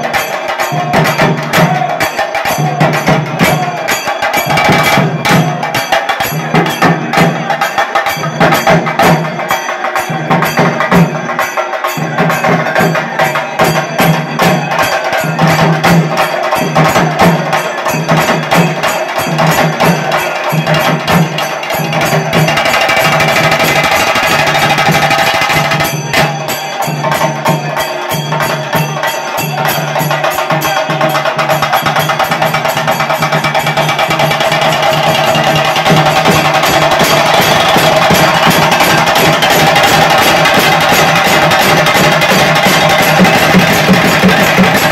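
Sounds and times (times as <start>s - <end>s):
fast drumming: 0.0s - 44.9s.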